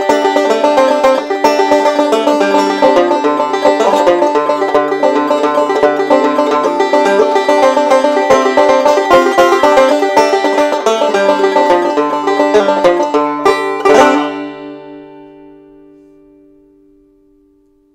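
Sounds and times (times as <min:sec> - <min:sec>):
resonator banjo picking: 0:00.0 - 0:17.5.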